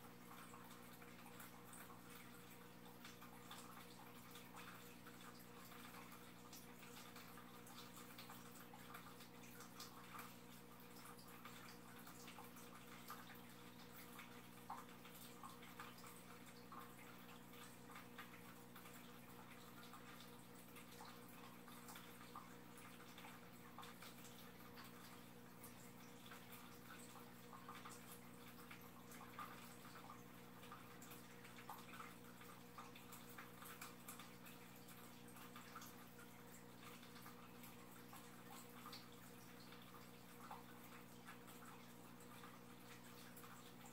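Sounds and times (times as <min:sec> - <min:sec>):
low electrical hum: 0:00.0 - 0:43.9
water trickling and dripping: 0:00.0 - 0:43.9.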